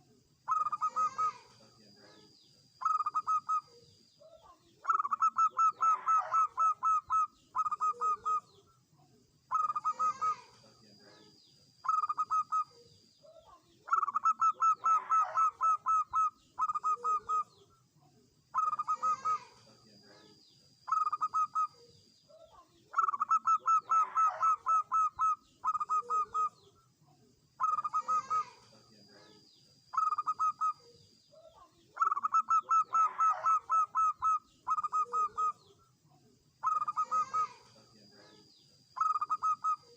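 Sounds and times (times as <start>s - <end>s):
dove cooing: 0.0s - 8.6s, 9.5s - 17.7s, 18.5s - 26.8s, 27.6s - 35.8s, 36.6s - 39.9s.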